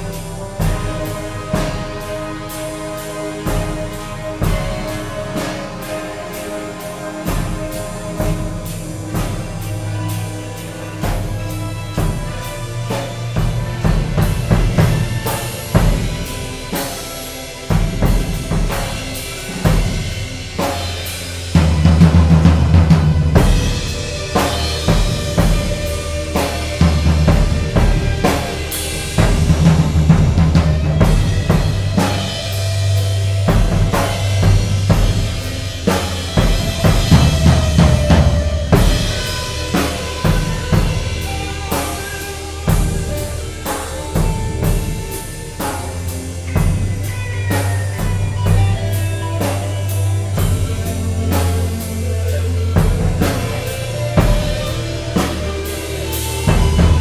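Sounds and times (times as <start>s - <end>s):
drum kit playing irregular hits: 0.0s - 57.0s
sliding pitched notes: 0.0s - 57.0s
sustained low bass tones: 0.0s - 57.0s.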